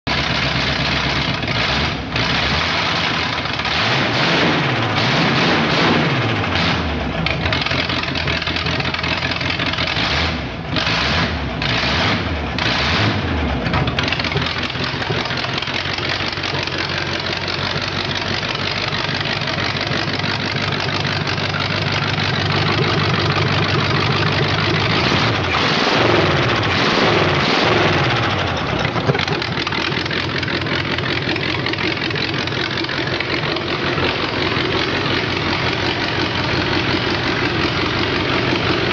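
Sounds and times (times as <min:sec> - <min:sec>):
car engine revving: 0:00.2 - 0:38.9.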